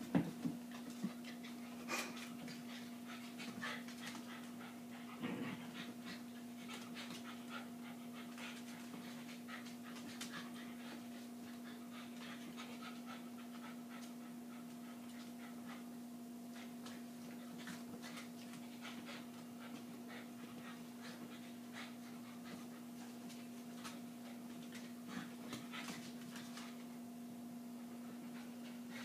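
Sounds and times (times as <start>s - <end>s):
steady low hum: 0.0s - 29.0s
dogs panting: 0.7s - 26.9s.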